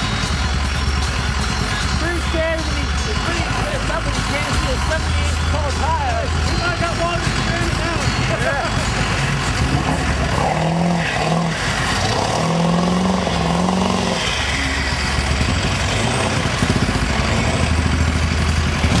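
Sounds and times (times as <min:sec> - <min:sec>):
tires churning through mud: 0:00.0 - 0:19.0
truck engine revving: 0:00.0 - 0:19.0.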